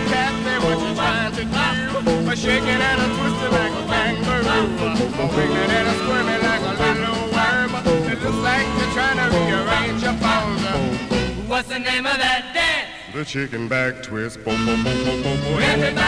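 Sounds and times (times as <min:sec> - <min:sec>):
rock and roll record playing: 0:00.0 - 0:11.7, 0:14.5 - 0:16.0.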